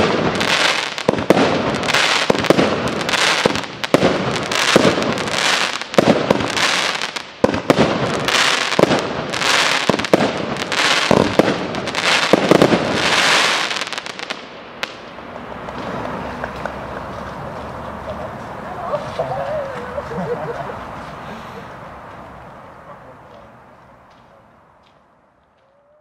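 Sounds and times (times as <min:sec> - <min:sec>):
fireworks crackling hiss: 0:00.0 - 0:22.5.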